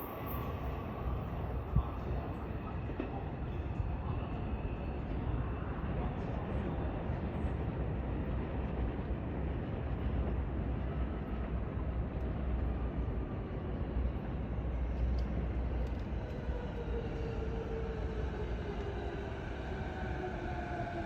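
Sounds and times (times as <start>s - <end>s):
distant electric train rumble: 0.0s - 21.0s.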